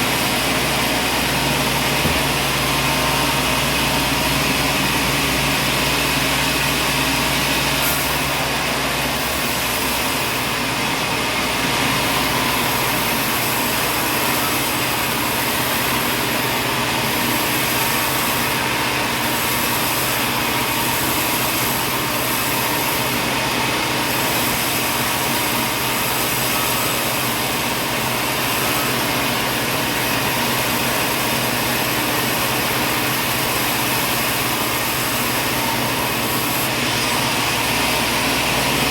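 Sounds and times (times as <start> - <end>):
sawmill machinery whirring: 0.0 - 38.9.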